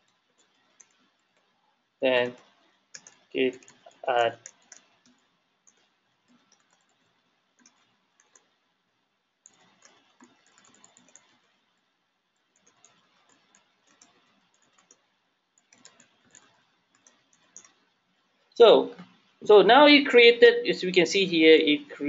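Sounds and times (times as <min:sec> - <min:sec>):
faint keyboard typing: 0:00.0 - 0:08.7, 0:09.4 - 0:19.3.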